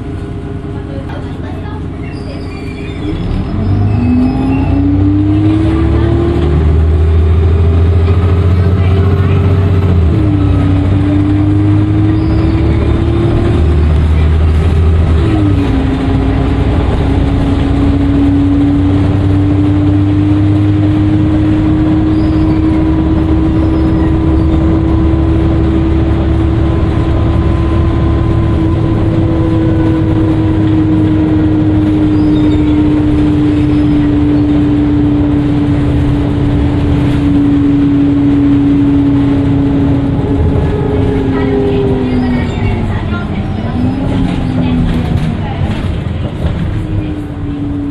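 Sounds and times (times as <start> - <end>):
bus engine rumble: 0.0 - 47.9.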